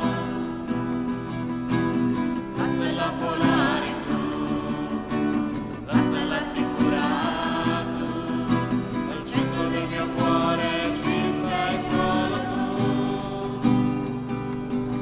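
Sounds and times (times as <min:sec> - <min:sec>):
person singing a hymn: 0:00.0 - 0:00.9, 0:02.5 - 0:14.3
guitar accompaniment: 0:00.0 - 0:15.0.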